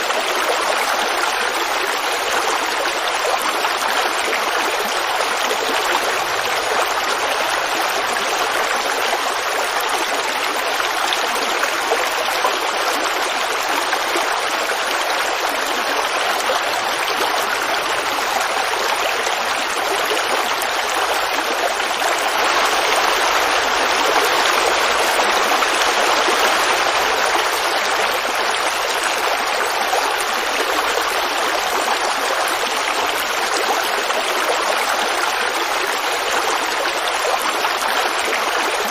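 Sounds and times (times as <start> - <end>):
forest creek babbling: 0.0 - 38.9.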